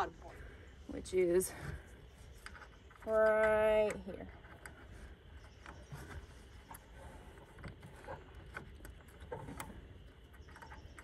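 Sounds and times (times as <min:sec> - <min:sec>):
small metallic ticks and scrapes: 0:01.6 - 0:11.0.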